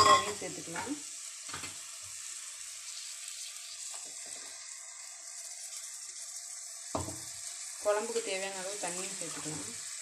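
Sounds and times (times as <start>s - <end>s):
spices sizzling in oil: 0.0s - 10.0s.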